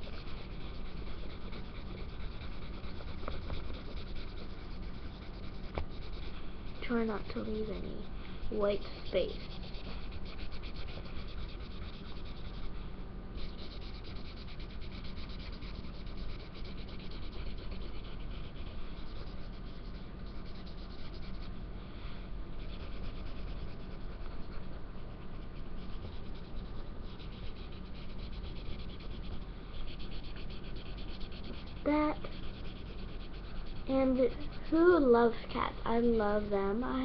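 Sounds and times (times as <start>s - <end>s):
marker scribbling on paper: 0.0s - 12.8s, 13.4s - 21.5s, 22.6s - 35.1s.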